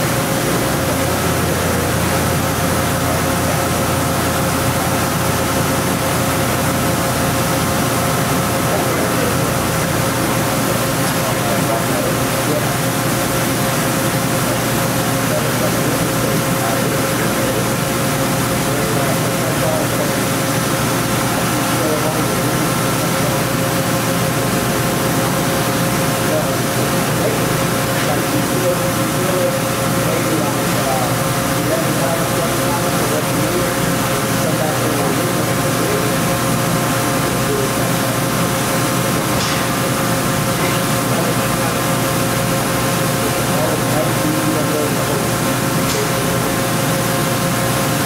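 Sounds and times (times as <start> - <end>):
machining center humming and whining: 0.0 - 48.0.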